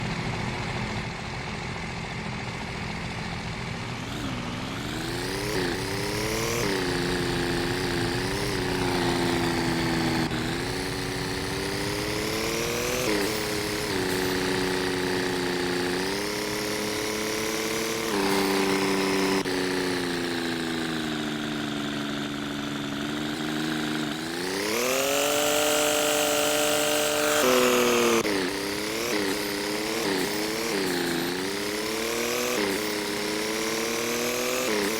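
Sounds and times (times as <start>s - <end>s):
vehicle engine revving through gears: 0.0s - 34.9s.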